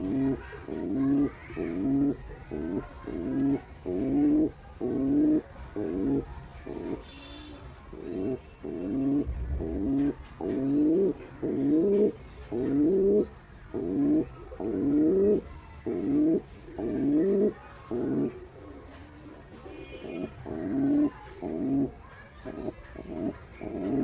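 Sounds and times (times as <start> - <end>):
pigeon cooing: 0.0 - 24.0.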